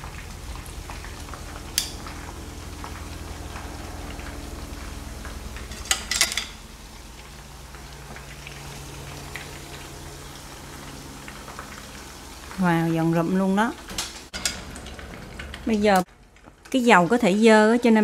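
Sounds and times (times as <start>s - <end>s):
oil bubbling and crackling: 0.0s - 18.0s.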